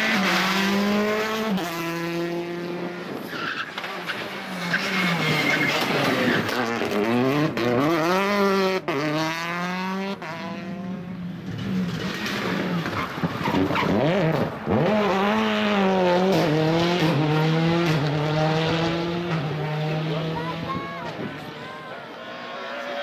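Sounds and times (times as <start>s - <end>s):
rally car engine revving: 0.0s - 21.5s.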